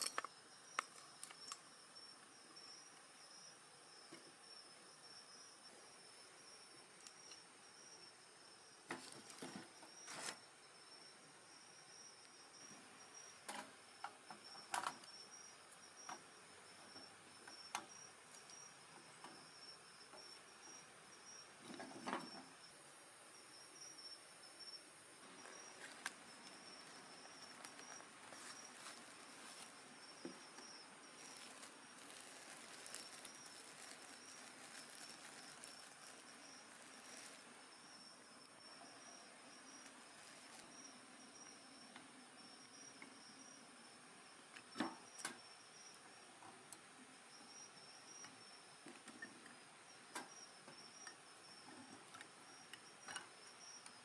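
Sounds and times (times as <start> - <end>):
night insects chirping: 0.0 - 54.0.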